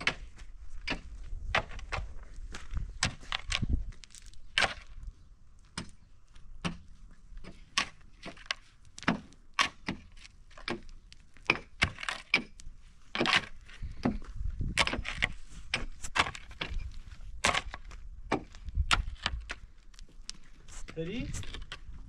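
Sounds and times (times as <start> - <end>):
stones and soil clattering: 0.0 - 5.0, 5.6 - 22.0
tool striking stony earth: 0.0 - 22.0.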